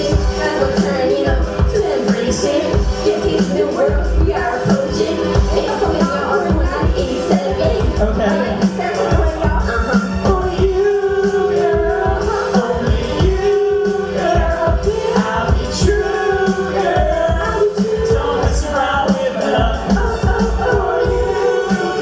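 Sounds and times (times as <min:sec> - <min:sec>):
hip hop backing track: 0:00.0 - 0:22.0
person singing: 0:00.0 - 0:22.0.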